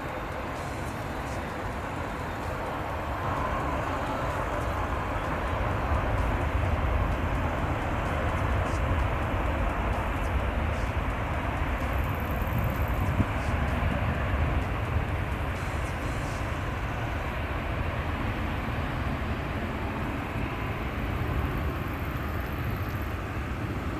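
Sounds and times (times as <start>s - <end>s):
jet airliner rumble: 0.0s - 23.9s.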